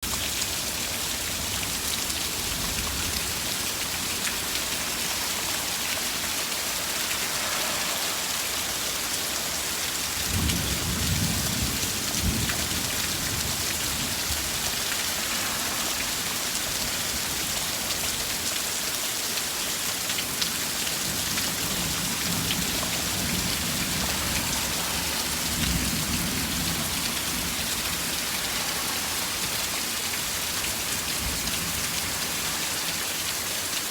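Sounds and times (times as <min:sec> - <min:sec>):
rain hissing on surfaces: 0:00.0 - 0:33.9.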